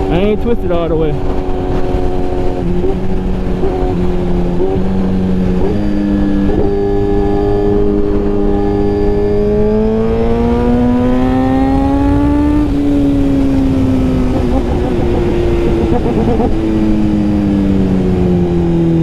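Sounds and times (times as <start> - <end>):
motorcycle engine while riding: 0.0 - 19.0
wind on microphone: 0.0 - 19.0.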